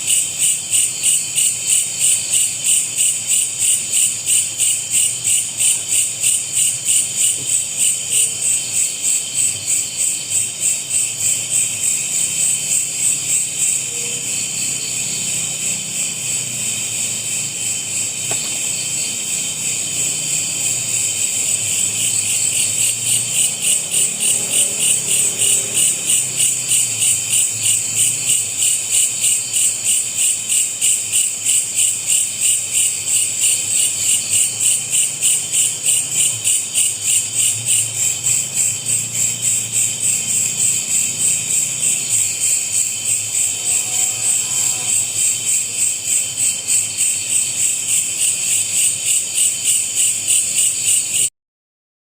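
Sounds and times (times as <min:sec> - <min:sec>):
crickets trilling: 0:00.0 - 0:51.3.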